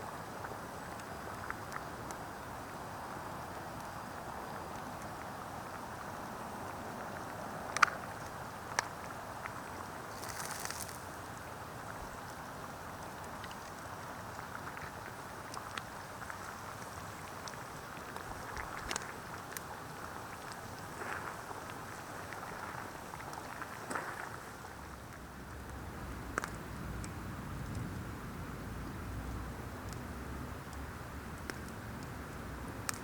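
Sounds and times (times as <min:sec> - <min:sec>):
campfire crackling: 0:00.2 - 0:33.0.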